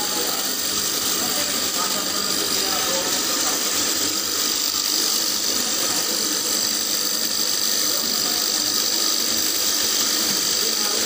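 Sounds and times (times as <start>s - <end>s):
extruder machine running: 0.0s - 11.0s
high machine whine: 0.0s - 11.0s.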